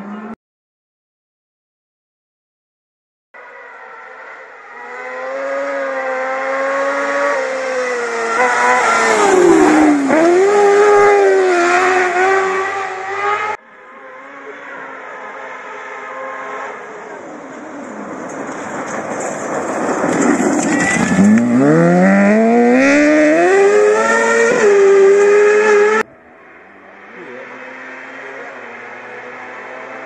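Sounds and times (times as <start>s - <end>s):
rally car engine revving: 3.5s - 26.1s, 26.8s - 30.0s.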